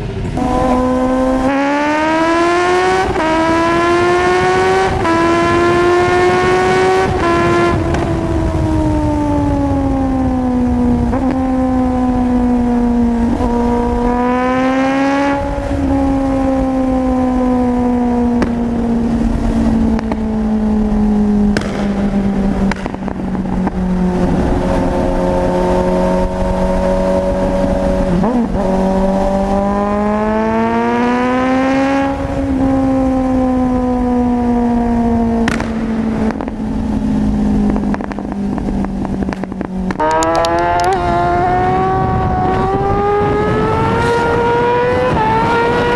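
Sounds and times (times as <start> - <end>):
motorcycle engine high revs: 0.4 - 45.9.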